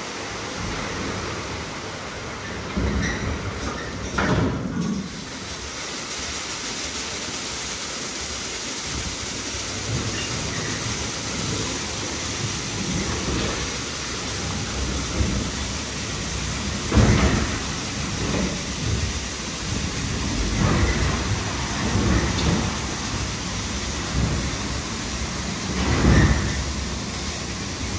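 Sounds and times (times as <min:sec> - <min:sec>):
hiss of spray nozzles: 0:05.0 - 0:27.9.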